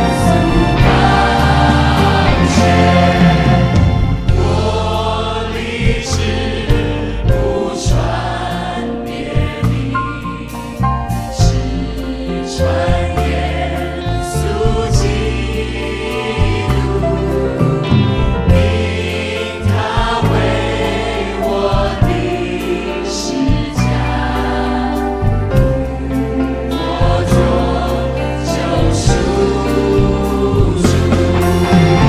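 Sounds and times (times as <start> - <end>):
band accompaniment: 0.0 - 32.0
group singing worship song: 0.0 - 32.0
steady drum beat: 0.0 - 32.0.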